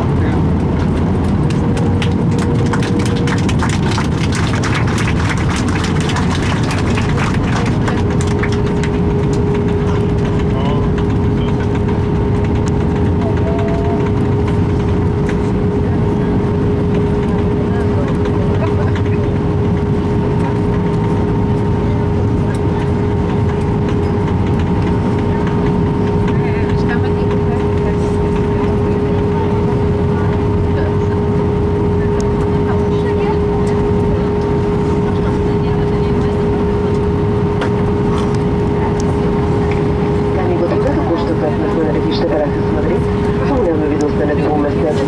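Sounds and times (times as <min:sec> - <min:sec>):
constant hum tone: 0:00.0 - 0:45.0
engine and wheel rumble: 0:00.0 - 0:45.0.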